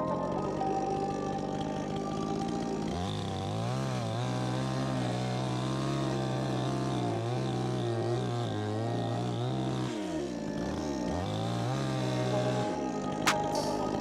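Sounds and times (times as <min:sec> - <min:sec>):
chainsaw engine revving: 0:00.0 - 0:14.0.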